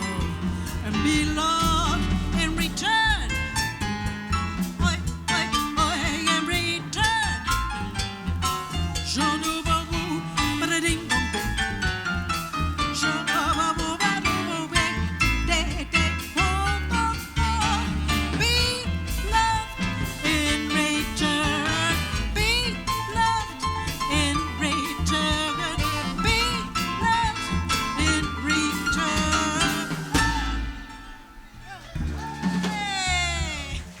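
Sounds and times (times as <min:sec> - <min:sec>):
drums: 0:00.0 - 0:34.0
jazz band playing: 0:00.0 - 0:34.0
walking bass: 0:00.0 - 0:34.0.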